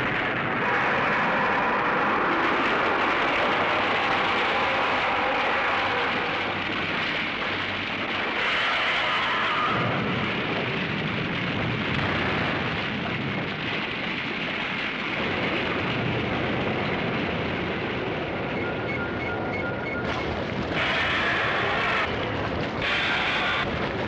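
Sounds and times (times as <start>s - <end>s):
eruption rushing rumble: 0.0s - 24.0s.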